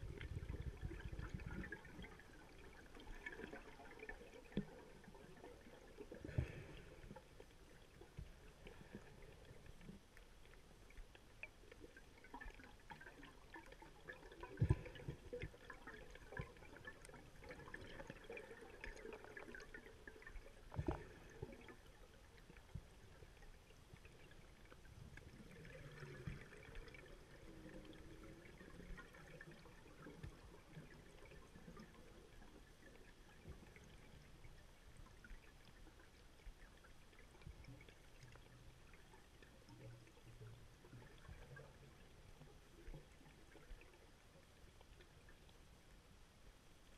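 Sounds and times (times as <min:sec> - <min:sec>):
underwater water noise gurgling: 0:00.0 - 0:46.9.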